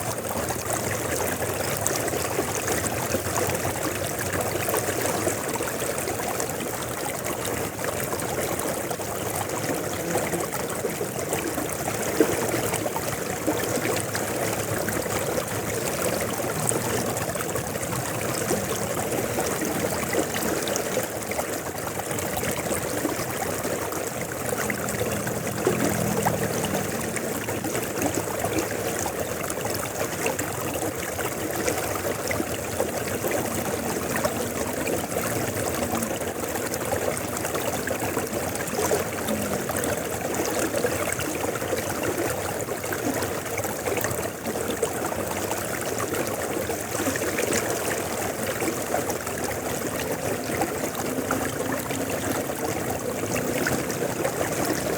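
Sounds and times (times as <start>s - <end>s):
river rushing and gurgling: 0.0s - 54.9s.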